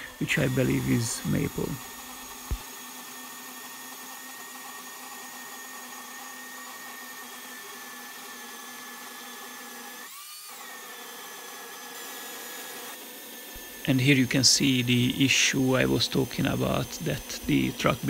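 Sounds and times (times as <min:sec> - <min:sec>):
electric chainsaw cutting log: 0:00.0 - 0:18.0.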